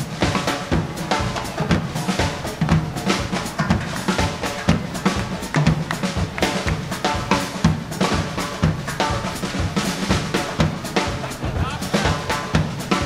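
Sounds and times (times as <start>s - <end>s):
latin dance band playing: 0.0s - 13.0s
steady drum beat: 0.0s - 13.0s.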